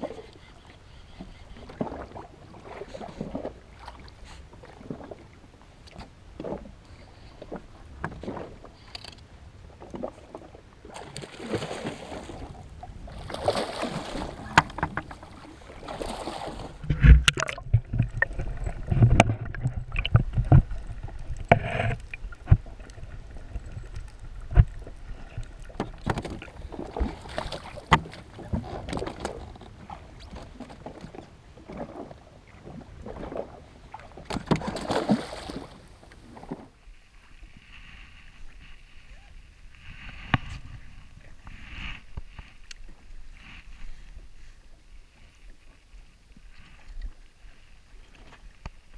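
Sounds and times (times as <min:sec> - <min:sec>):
water splashing against jet ski: 0:00.0 - 0:48.9.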